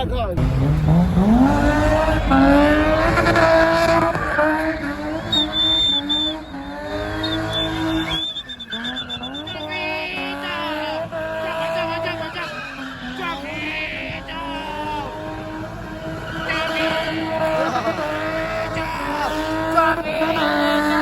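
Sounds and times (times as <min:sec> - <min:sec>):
car engine revving hard: 0:00.3 - 0:21.0
tyres squealing: 0:00.4 - 0:21.0.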